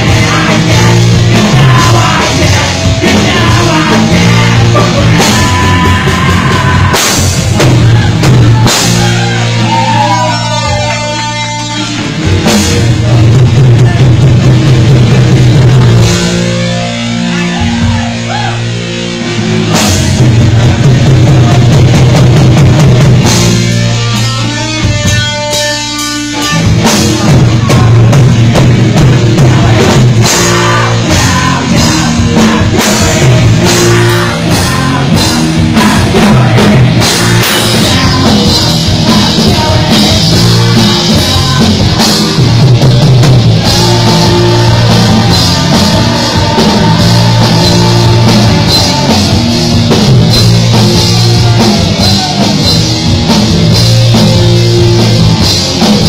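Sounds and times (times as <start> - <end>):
drum kit: 0.0 - 56.0
electric guitar: 0.0 - 56.0.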